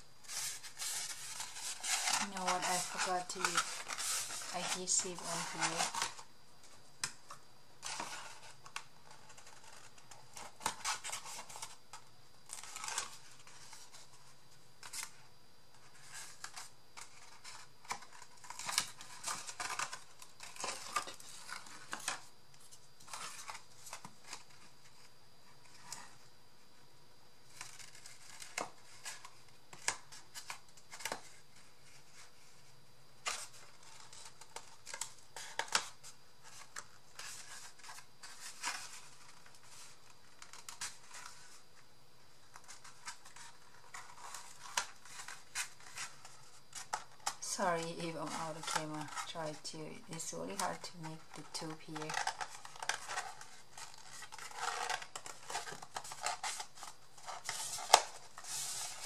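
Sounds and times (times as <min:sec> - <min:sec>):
paper and cardboard rustling: 0:00.0 - 0:26.2, 0:27.5 - 0:41.8, 0:42.4 - 0:59.0.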